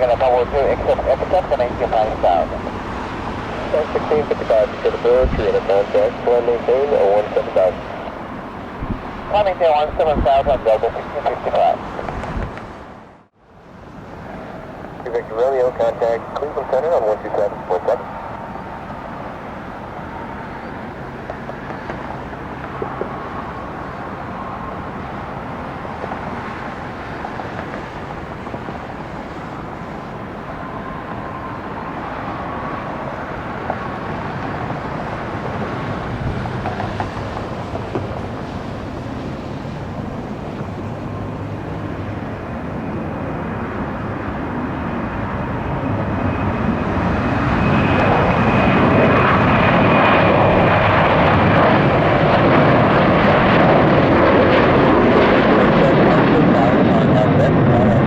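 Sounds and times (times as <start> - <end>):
high jet whine: 0.0 - 58.0
jet engines rushing: 0.0 - 58.0.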